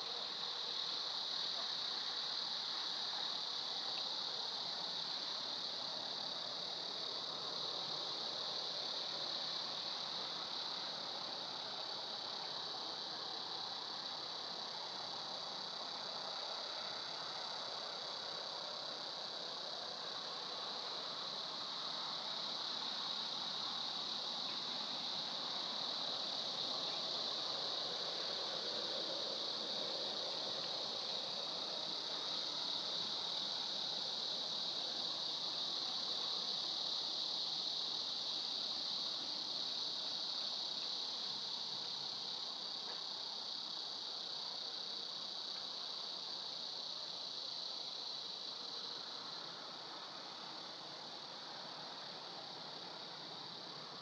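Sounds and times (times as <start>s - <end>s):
high-pitched hiss: 0.0s - 54.0s.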